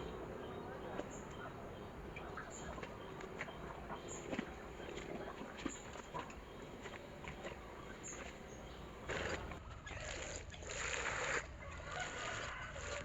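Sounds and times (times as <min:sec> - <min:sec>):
water splashing and sloshing: 0:00.0 - 0:11.5.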